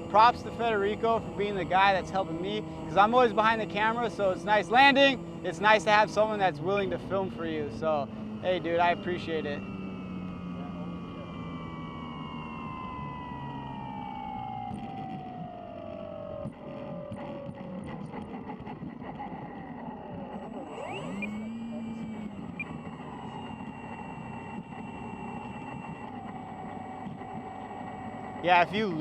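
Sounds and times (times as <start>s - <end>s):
electric model airplane whining: 0.0s - 29.0s.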